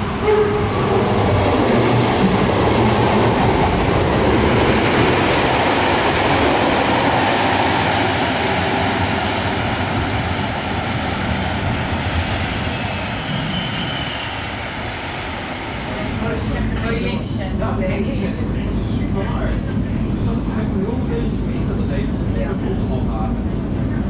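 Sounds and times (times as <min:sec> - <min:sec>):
train running on rails: 0:00.0 - 0:24.0.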